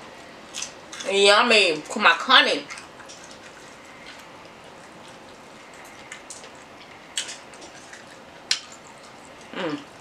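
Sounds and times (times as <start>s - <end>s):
chewing with wet smacks: 0.0s - 10.0s.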